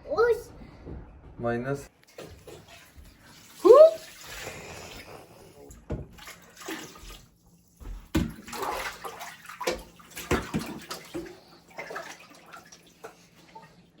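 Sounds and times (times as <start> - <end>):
water splashing and sloshing: 1.9 - 14.0.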